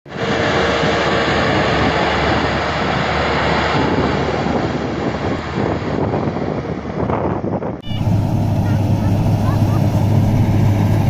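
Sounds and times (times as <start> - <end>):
combine harvester running: 0.1 - 6.8, 7.8 - 11.0.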